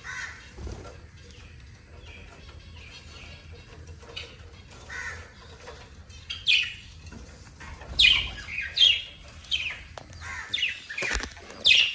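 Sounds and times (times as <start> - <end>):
budgerigars chirping: 0.0 - 11.9.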